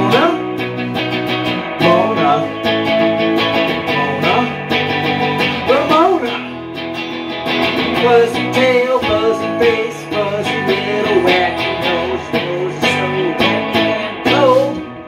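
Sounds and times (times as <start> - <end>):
man singing: 0.0 - 0.8, 1.6 - 6.7, 7.8 - 15.0
electric guitar strumming: 0.0 - 15.0.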